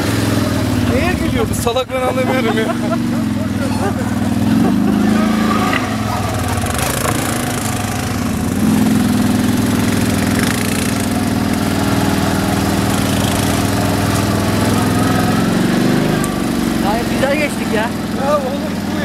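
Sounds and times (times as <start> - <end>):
quad bike engine running: 0.0 - 19.0.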